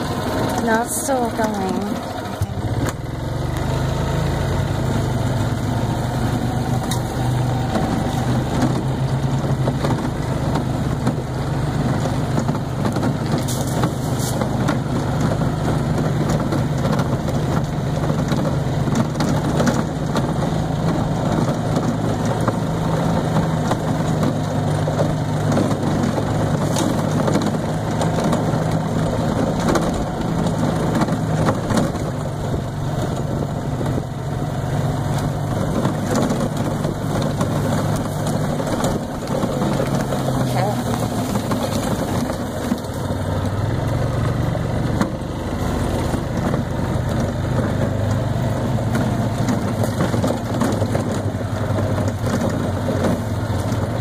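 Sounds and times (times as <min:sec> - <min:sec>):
cart rattling over ground: 0:00.0 - 0:54.0
golf cart motor droning: 0:00.0 - 0:54.0.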